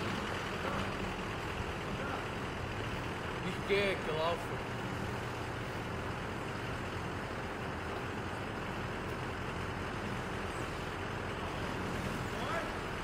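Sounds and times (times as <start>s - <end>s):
outdoor background hiss and rumble: 0.0s - 13.0s.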